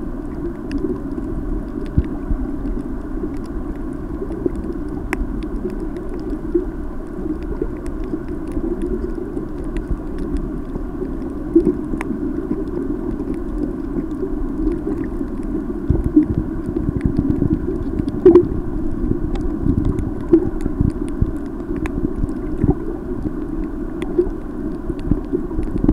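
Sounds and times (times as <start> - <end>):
muffled underwater rumble: 0.0 - 25.9
faint clicks: 0.2 - 18.5, 19.2 - 25.9.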